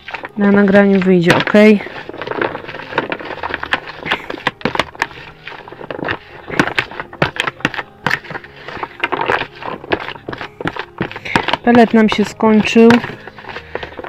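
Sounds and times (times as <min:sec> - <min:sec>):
handling clicks and crackles: 0:00.0 - 0:14.0.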